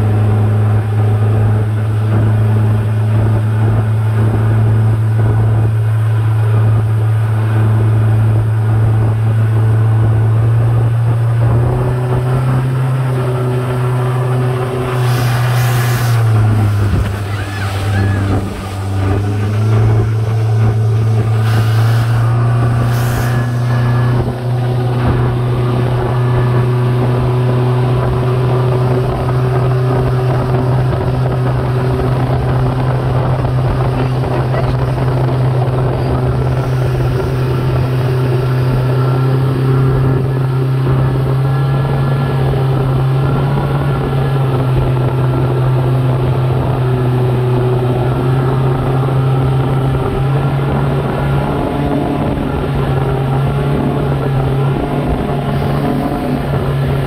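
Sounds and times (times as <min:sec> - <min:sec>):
speedboat engine running: 0:00.0 - 0:57.0
wake and wind rushing: 0:00.0 - 0:57.0.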